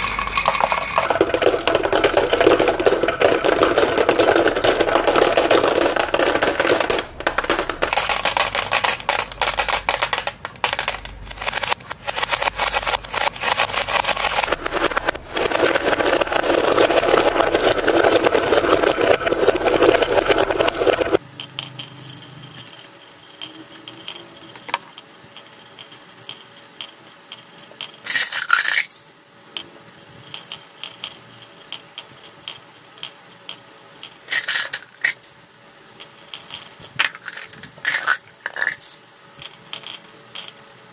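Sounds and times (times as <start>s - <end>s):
glass marbles rolling and clattering: 0.0s - 11.6s, 12.3s - 29.2s, 29.8s - 40.8s.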